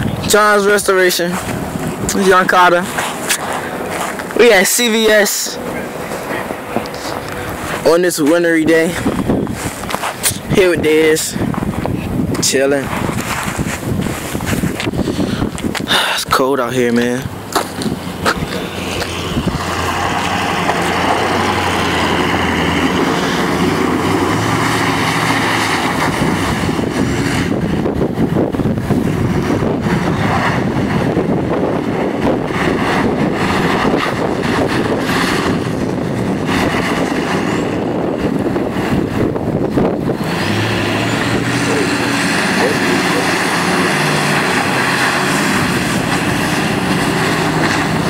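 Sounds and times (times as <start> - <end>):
pickup truck engine running hard: 0.0 - 48.0.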